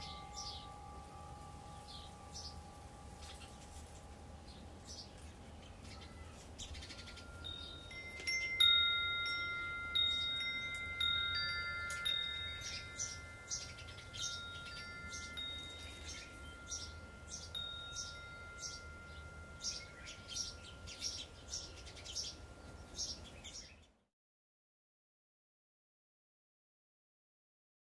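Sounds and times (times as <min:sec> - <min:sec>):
wind chimes ringing: 0:00.0 - 0:23.9
bird chirping: 0:00.0 - 0:24.0.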